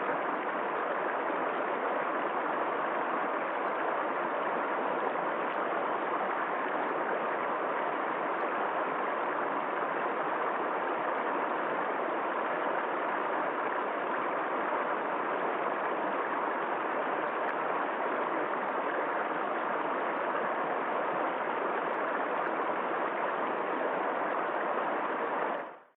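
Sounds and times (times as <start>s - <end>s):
river water flowing: 0.0s - 25.9s.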